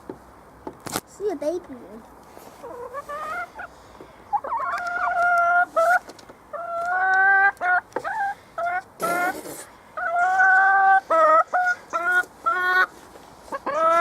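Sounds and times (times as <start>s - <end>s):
hens calling: 2.6s - 14.0s.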